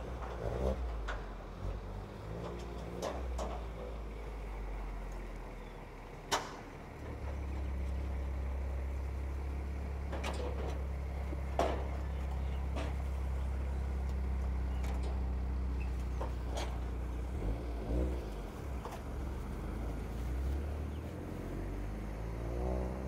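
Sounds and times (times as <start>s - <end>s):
car engine running at low revs: 0.0s - 23.0s.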